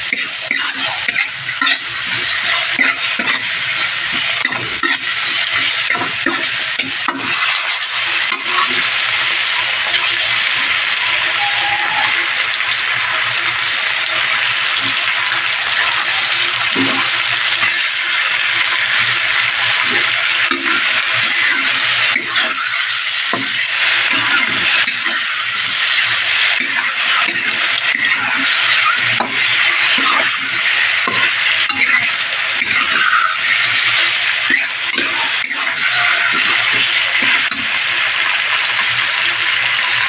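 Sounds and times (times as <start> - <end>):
metal spatula scraping a pan: 0.0 - 13.3, 16.6 - 40.0
oil sizzling in a pan: 0.0 - 40.0.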